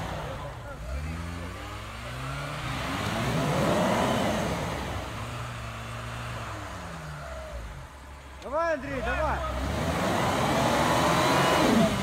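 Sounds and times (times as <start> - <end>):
off-road engines revving: 0.0 - 12.0
tyres churning snow: 0.0 - 12.0.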